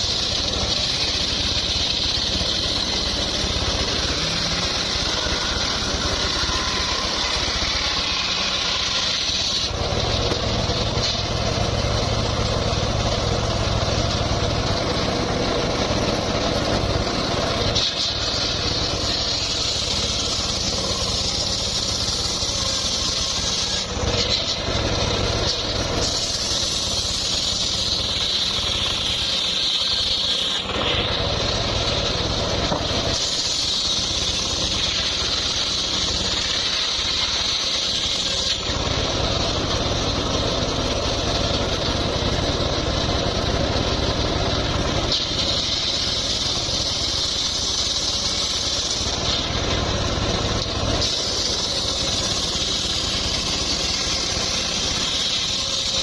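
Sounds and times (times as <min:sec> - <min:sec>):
power saw cutting wood: 0:00.0 - 0:56.0.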